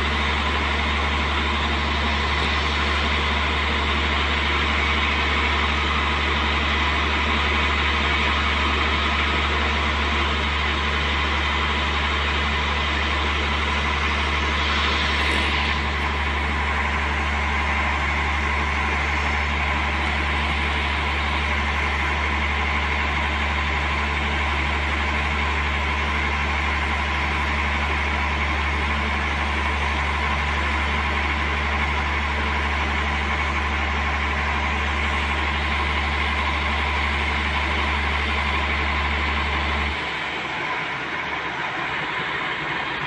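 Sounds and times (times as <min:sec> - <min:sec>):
diesel engine deep hum: 0:00.0 - 0:43.0
high-pitched whine: 0:00.0 - 0:43.0.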